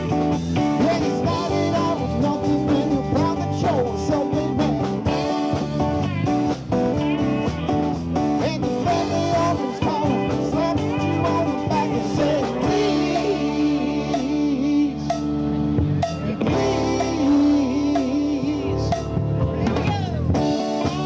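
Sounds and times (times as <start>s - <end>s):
drum kit: 0.0s - 21.0s
electric and acoustic guitars: 0.0s - 21.0s
lead vocal singing: 0.6s - 6.5s, 8.4s - 15.4s, 16.2s - 20.2s.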